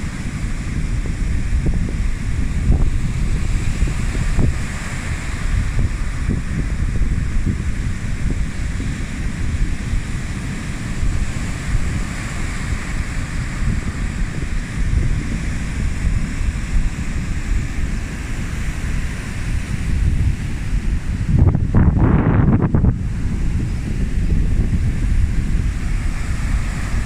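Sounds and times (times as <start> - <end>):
sea surf breaking: 0.0 - 27.0
wind buffeting microphone: 0.0 - 27.0.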